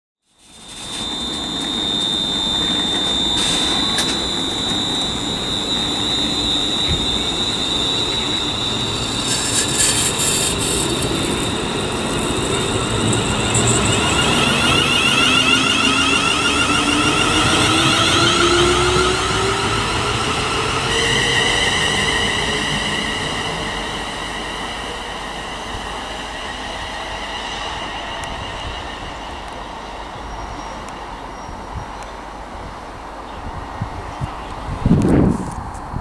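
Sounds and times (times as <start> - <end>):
electric train motors whining: 0.4 - 31.0.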